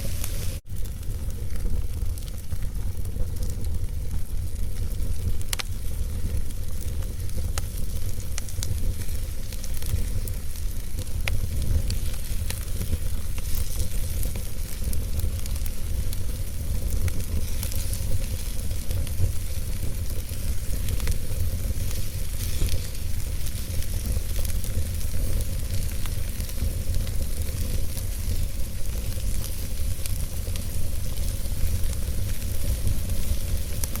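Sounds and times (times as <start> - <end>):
low rumble and hiss of fire: 0.0 - 34.0
wood fire crackling and popping: 0.0 - 34.0.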